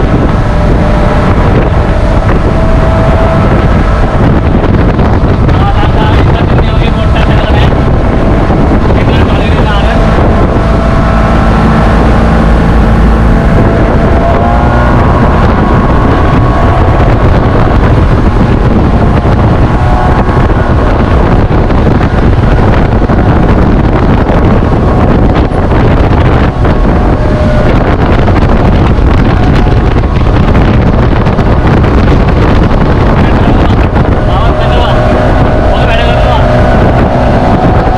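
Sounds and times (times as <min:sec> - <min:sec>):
motorboat engine: 0:00.0 - 0:37.9
water rushing: 0:00.0 - 0:37.9
wind buffeting microphone: 0:00.0 - 0:37.9.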